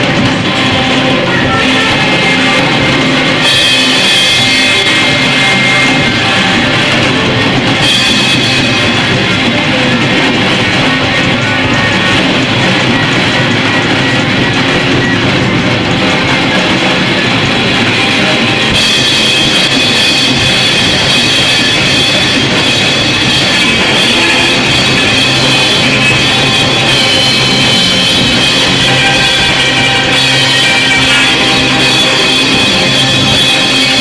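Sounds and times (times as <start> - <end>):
loud noise music: 0.0 - 34.0.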